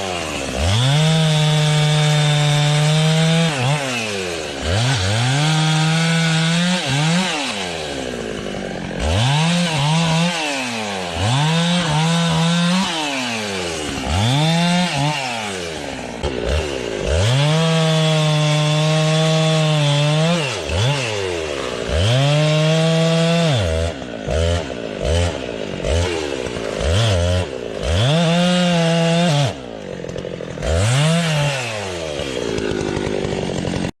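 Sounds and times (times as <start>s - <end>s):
chainsaw revving and cutting logs: 0.0s - 34.0s.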